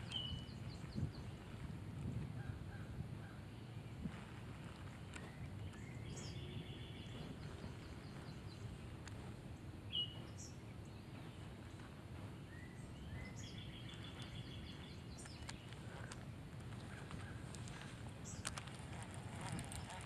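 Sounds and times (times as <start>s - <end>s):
wild birds calling: 0.0s - 1.6s, 2.3s - 20.0s
low outdoor rumble: 0.0s - 20.0s.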